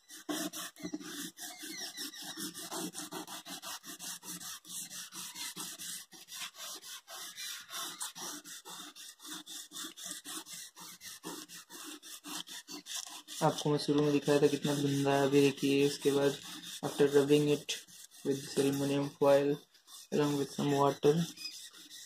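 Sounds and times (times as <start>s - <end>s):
foil rubbing on chrome: 0.0s - 22.0s.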